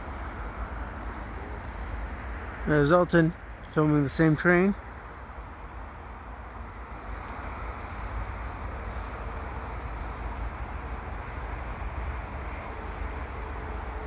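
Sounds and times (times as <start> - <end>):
diesel freight train rumble: 0.0 - 14.0
highway traffic: 0.0 - 14.0.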